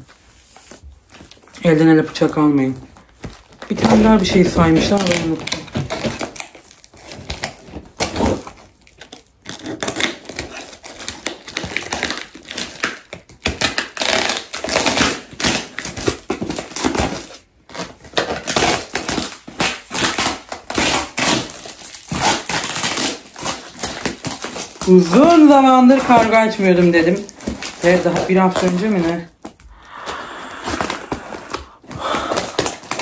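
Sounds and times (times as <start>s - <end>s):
crinkling and scraping: 0.0s - 33.0s
packing tape ripped off cardboard: 3.0s - 33.0s.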